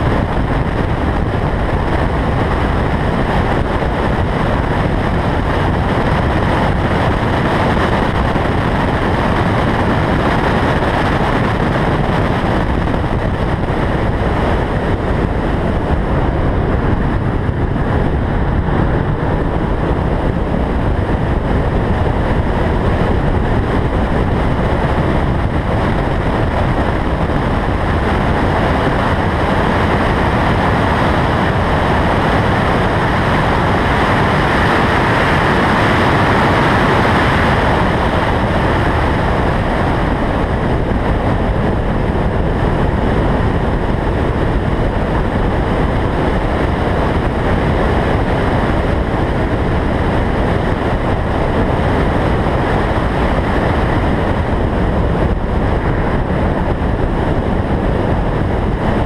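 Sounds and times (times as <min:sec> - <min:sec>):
car driving noise: 0:00.0 - 0:59.0
wind rushing over camera: 0:00.0 - 0:59.0.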